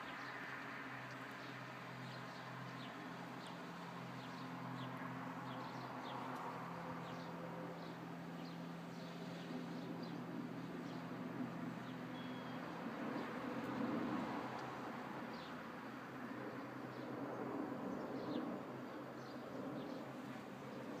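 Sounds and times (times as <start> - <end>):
distant airliner rumble: 0.6 - 21.0.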